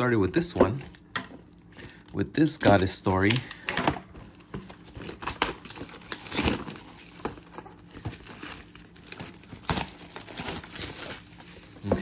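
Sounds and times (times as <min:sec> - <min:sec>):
foil packaging crinkling: 0:01.5 - 0:12.0.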